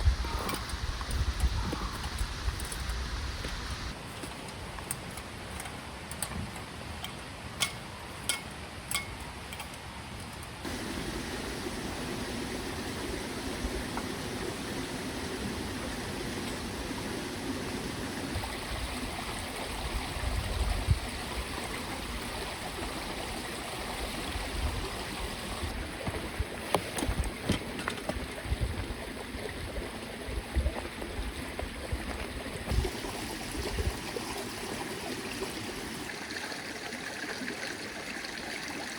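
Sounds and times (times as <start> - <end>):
creek trickling over stones: 0.0 - 38.9.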